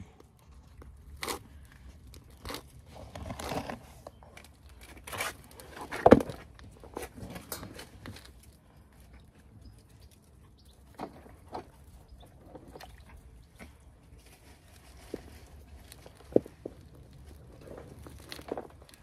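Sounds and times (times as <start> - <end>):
hands rustling in potting soil: 0.0 - 19.0.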